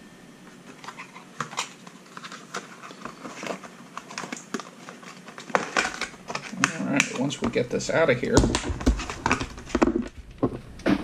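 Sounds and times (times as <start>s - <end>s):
packaging clicks and rustles: 0.7s - 10.6s.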